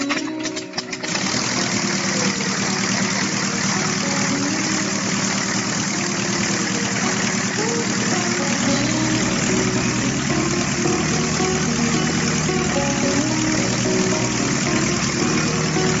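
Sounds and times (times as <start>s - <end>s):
propeller engine idling: 0.1s - 16.0s.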